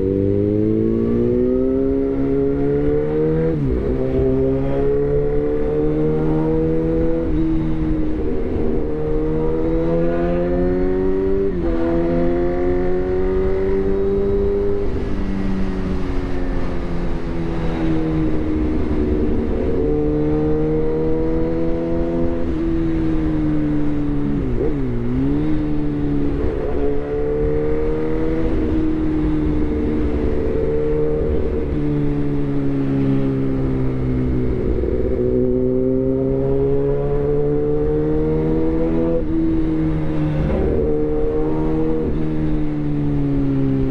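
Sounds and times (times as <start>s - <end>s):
motorcycle engine shifting gears: 0.0s - 43.9s.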